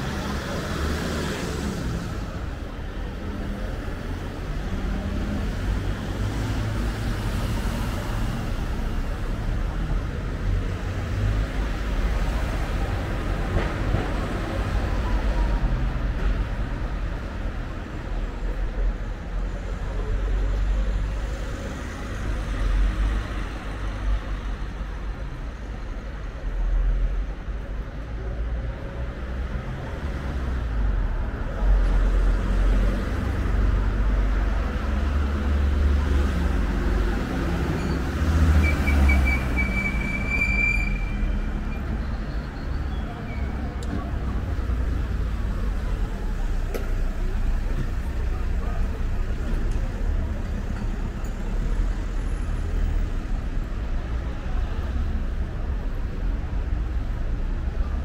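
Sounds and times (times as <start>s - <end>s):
traffic rumbling: 0.0s - 58.0s.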